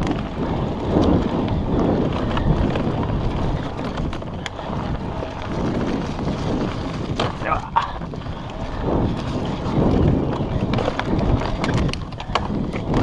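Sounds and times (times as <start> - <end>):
bike rattling: 0.0 - 13.0
tyre rumble: 0.0 - 13.0
wind on microphone: 0.0 - 13.0.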